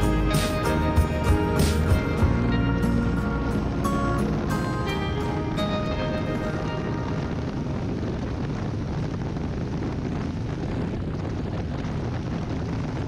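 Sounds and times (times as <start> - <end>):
road noise: 0.0 - 13.0
wind noise on microphone: 0.0 - 13.0.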